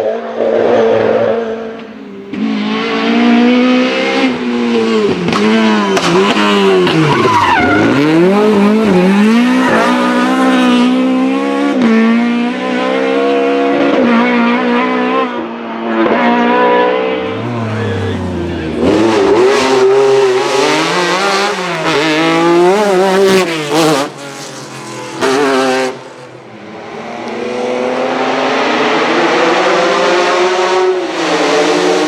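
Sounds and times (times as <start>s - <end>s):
car engine at high revs: 0.0s - 32.0s.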